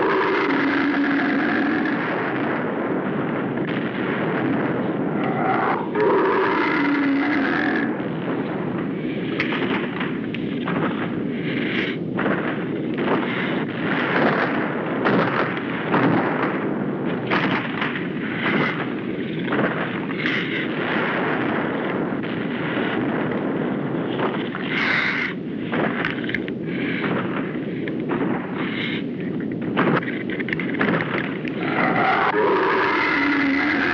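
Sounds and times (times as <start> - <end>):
explosion-like blasts: 0.0 - 33.9
heavy rumble: 0.0 - 33.9.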